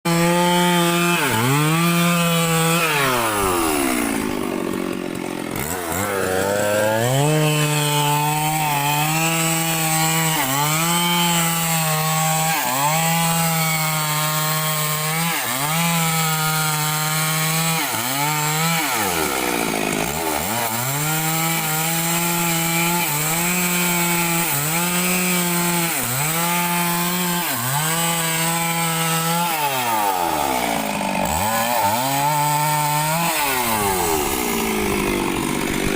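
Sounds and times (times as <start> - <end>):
chainsaw cutting wood: 0.0 - 35.9.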